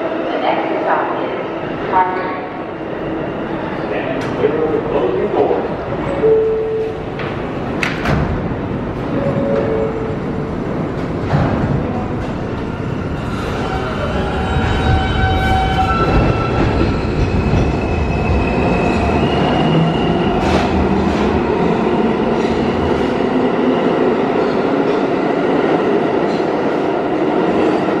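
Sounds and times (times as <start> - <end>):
subway train rumbling on rails: 0.0 - 28.0.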